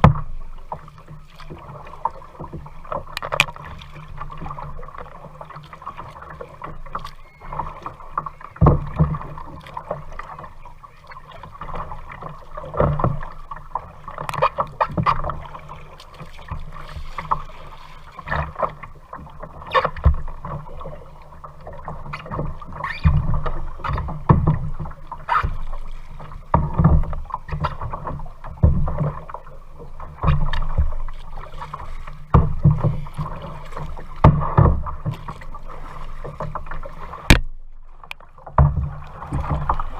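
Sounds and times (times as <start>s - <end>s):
paddle splashes and knocks: 0.0s - 39.9s
water washing against hull: 0.0s - 39.9s.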